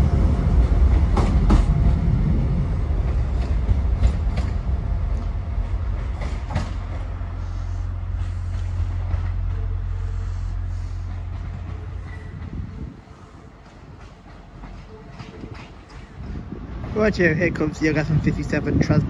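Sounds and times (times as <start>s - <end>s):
diesel train rumble: 0.0s - 19.0s.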